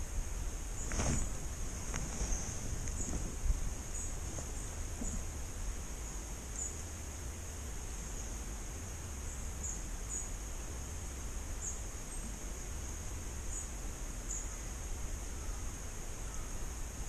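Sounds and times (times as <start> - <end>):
faint bird chirps: 2.2 - 6.9, 7.9 - 17.0.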